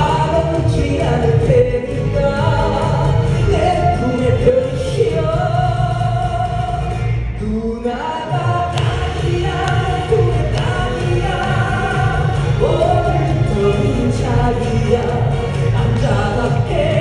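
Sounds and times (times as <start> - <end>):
amplified backing music: 0.0 - 17.0
man singing into a microphone: 0.0 - 17.0.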